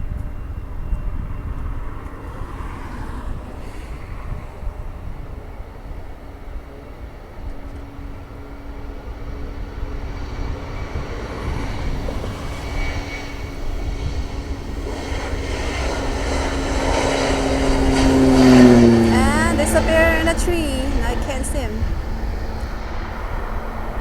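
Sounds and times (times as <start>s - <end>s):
jet airliner engines roaring: 0.0s - 24.0s.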